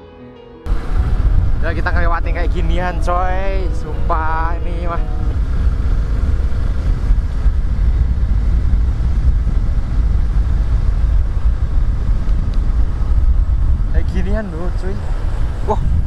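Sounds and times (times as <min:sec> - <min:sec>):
vehicle rumbling along road: 0:00.7 - 0:16.0.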